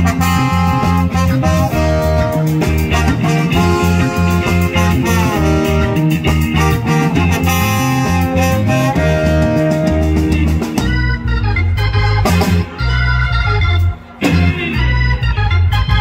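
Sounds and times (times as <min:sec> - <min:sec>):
bass line: 0:00.0 - 0:16.0
drums: 0:00.0 - 0:16.0
trombone and saxophone horn line: 0:00.0 - 0:16.0.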